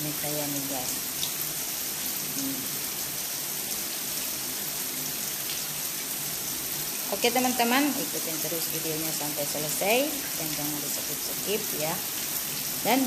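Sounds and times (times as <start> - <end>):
heavy rain on stone paving: 0.0 - 13.0.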